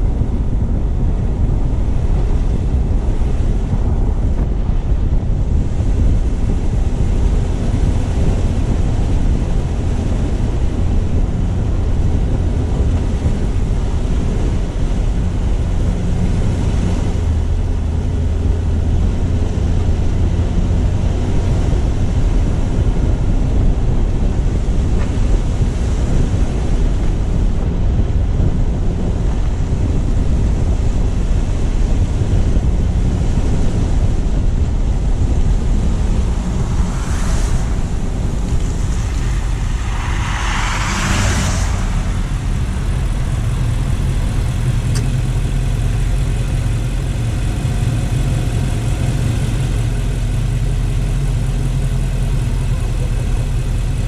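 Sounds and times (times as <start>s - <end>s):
tyres rumbling on road: 0.0s - 54.0s
wind buffeting microphone: 0.0s - 54.0s.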